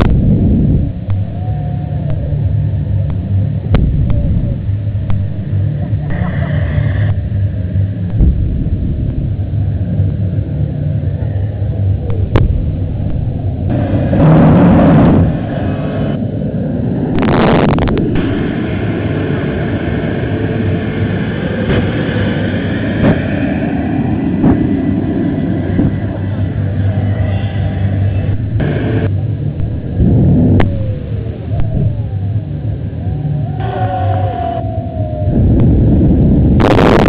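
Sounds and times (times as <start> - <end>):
jet-powered quad bike engine rumbling: 0.0 - 37.0.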